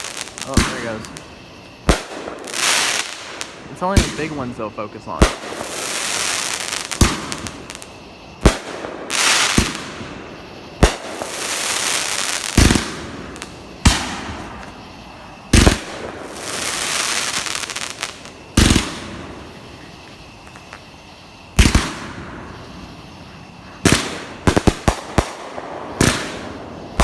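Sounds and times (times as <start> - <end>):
crackling hiss: 0.0 - 27.0
fireworks bangs: 0.0 - 27.0.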